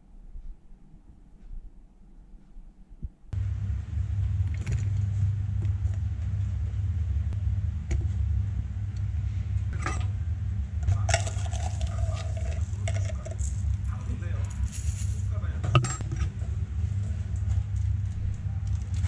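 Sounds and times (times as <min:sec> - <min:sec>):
kitchen background rumble: 0:03.3 - 0:19.0.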